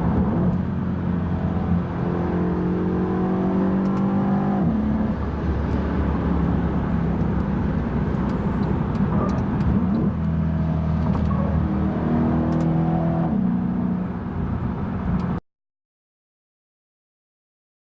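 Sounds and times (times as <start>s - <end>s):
car engine drone from inside cabin: 0.0s - 15.4s.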